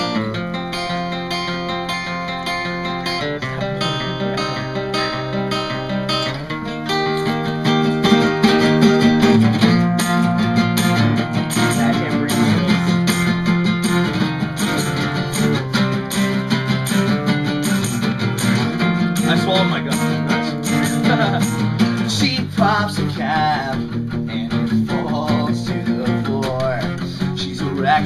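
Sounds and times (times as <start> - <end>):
electric guitar: 0.0 - 28.0
strummed acoustic guitar: 0.0 - 28.0.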